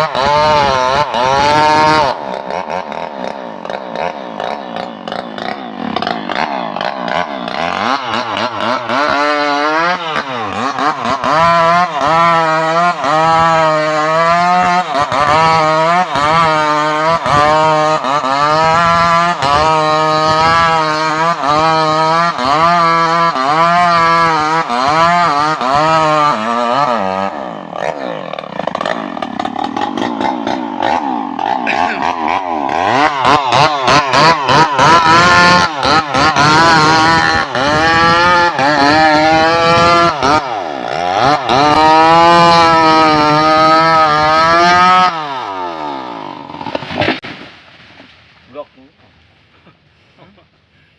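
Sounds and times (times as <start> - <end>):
chainsaw cutting wood: 0.0 - 48.4.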